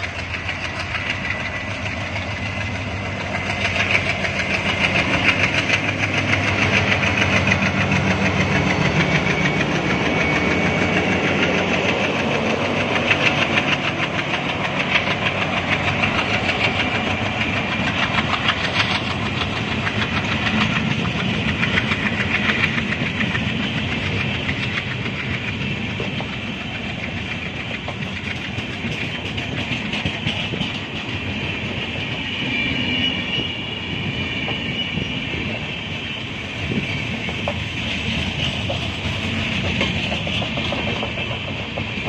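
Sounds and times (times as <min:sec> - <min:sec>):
train wheels clattering over rail joints: 0:00.0 - 0:42.0.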